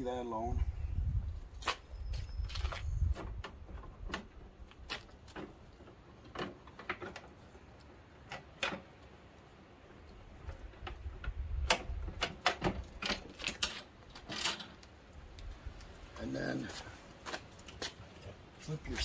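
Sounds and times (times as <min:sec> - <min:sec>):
light clicks and knocks of parts: 0:02.5 - 0:18.4.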